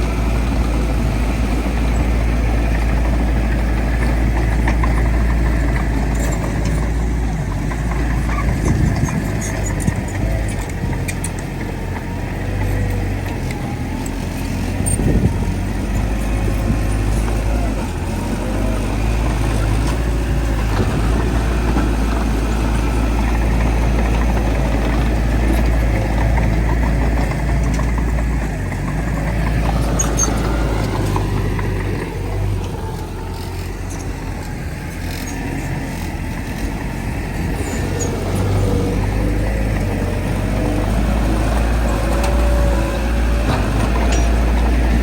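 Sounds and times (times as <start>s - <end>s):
diesel machinery engine rumble: 0.0s - 45.0s.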